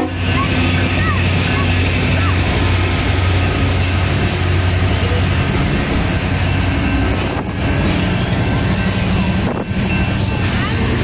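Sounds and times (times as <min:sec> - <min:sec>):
diesel locomotive engine drone: 0:00.0 - 0:11.0
hopper cars rumbling on rails: 0:00.0 - 0:11.0.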